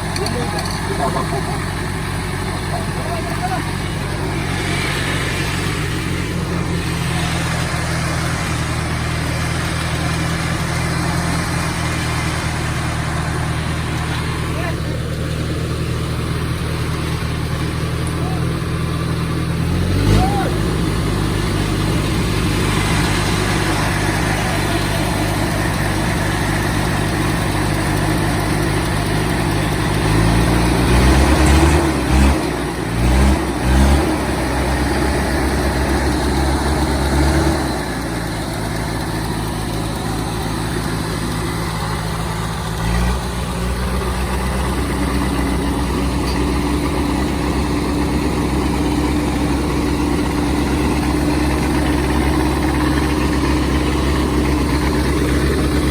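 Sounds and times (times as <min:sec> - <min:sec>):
vehicle engine revving: 0:00.0 - 0:55.9.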